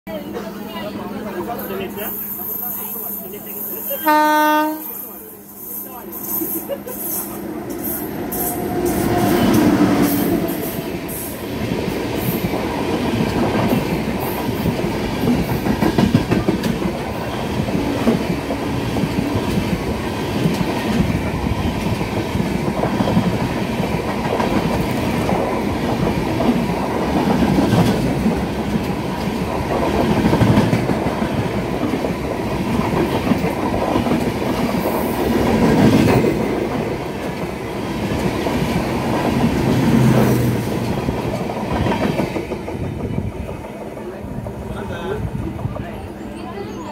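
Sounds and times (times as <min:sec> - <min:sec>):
train wheels rumbling on rails: 0:01.6 - 0:46.9.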